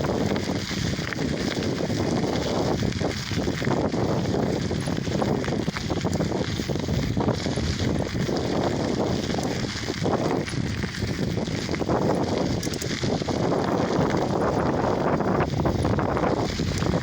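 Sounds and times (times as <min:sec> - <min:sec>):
small crackles: 0:00.0 - 0:17.0
wind buffeting microphone: 0:00.0 - 0:17.0.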